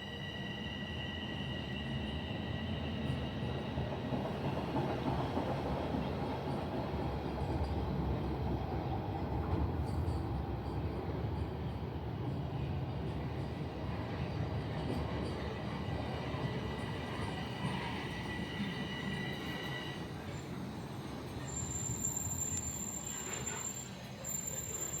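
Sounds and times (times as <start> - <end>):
train rumbling on track: 0.0 - 25.0.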